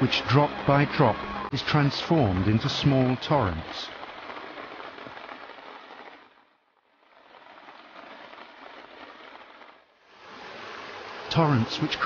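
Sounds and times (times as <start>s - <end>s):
rain and running rainwater: 0.0s - 12.0s.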